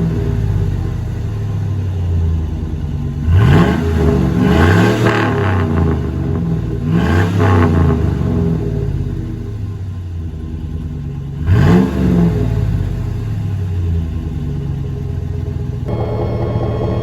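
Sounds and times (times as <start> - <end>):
pickup engine revving: 0.0 - 17.0.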